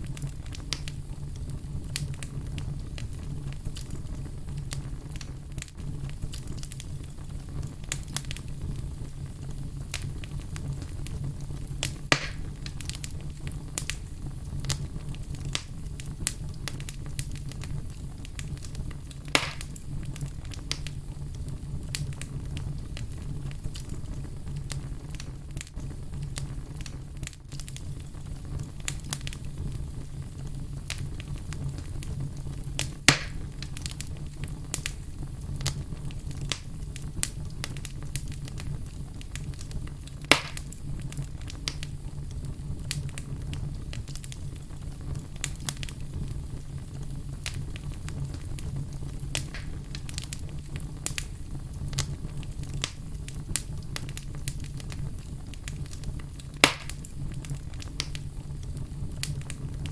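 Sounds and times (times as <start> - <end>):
fire crackling: 0.0 - 59.9
sharp fire pops: 0.0 - 59.9.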